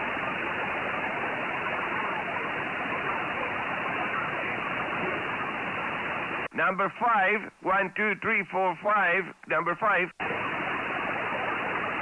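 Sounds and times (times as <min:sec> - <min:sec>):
radio receiver static hiss: 0:00.0 - 0:12.0.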